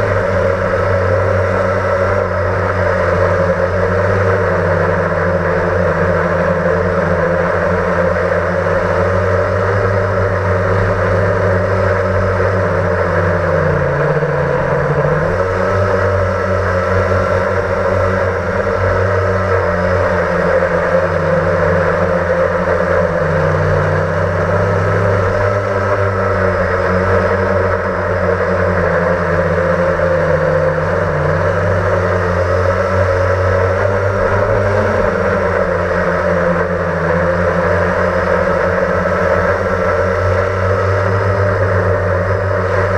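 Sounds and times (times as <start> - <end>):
quadcopter propellers whirring: 0.0 - 42.9.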